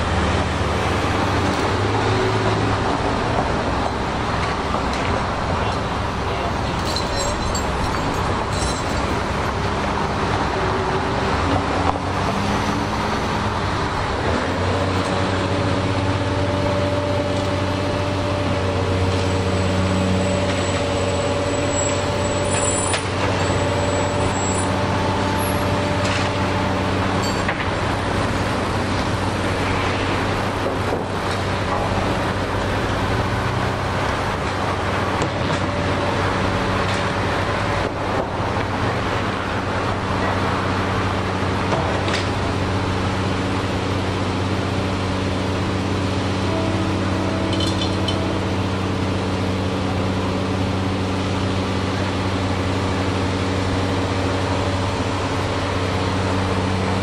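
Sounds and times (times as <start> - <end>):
diesel engine humming: 0.0 - 57.0.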